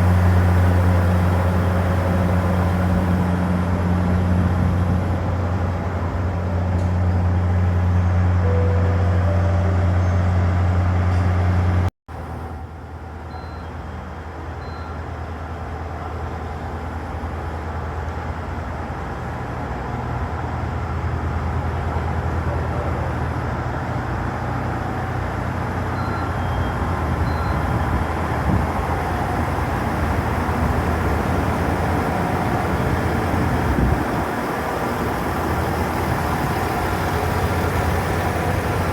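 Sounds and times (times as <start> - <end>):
train engine hum: 0.0 - 38.9.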